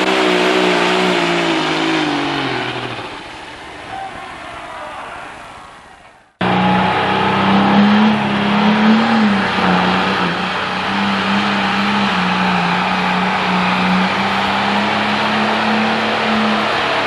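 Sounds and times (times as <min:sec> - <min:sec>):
diesel tractor engine running hard: 0:00.0 - 0:04.6, 0:06.4 - 0:17.0.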